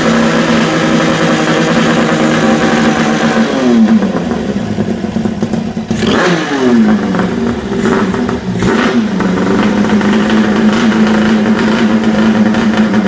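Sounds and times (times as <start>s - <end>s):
motorcycle engine idling: 0.0s - 6.1s, 6.7s - 13.0s
engine revving: 0.0s - 13.0s.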